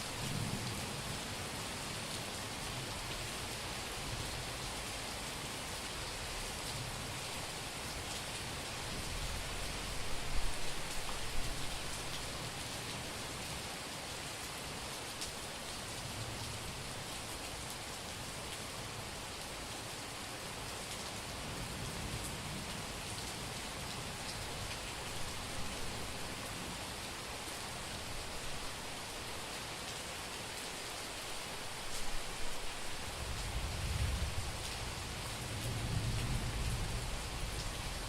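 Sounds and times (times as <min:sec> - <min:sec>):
heavy rain on pavement: 0:00.0 - 0:38.0.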